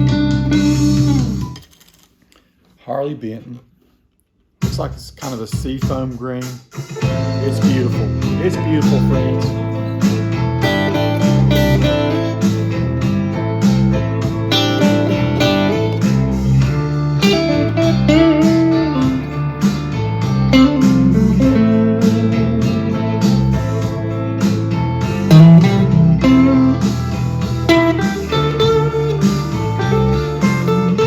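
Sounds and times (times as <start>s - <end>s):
electric guitar bluesy lead: 0.0s - 1.4s, 7.0s - 31.0s
backing track with bass line: 0.0s - 1.6s, 4.6s - 31.0s.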